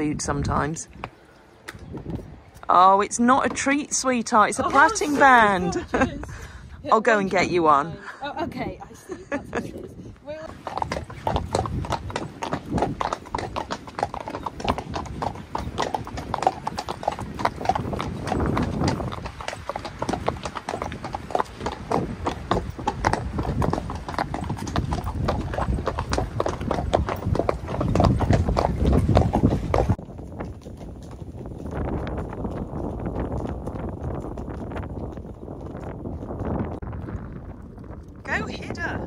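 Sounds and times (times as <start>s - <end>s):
horse hooves clip-clopping on tarmac: 0.0s - 6.3s, 8.6s - 39.0s
wind rumbling on microphone: 0.0s - 39.0s.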